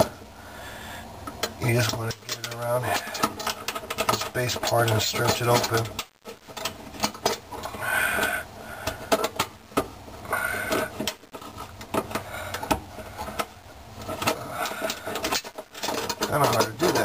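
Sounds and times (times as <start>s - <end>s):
metallic clicks and scrapes: 1.2s - 9.7s, 10.3s - 17.0s.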